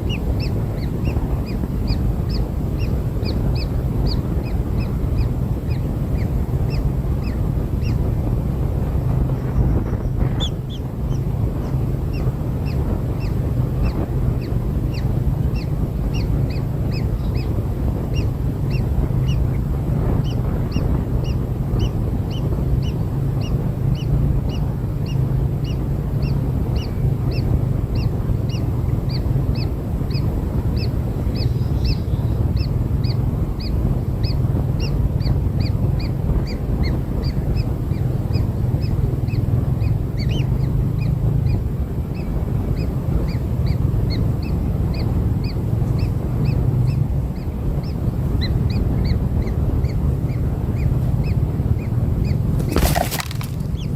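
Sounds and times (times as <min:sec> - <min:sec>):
bird chicks chirping: 0:00.0 - 0:53.9.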